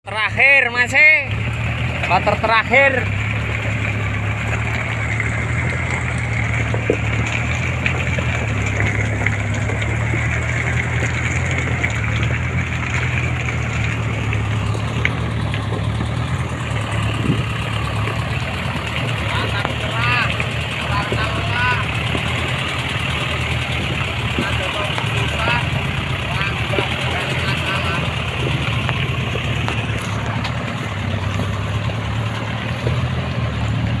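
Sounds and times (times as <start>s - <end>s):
truck engine running at low revs: 0.1s - 34.0s.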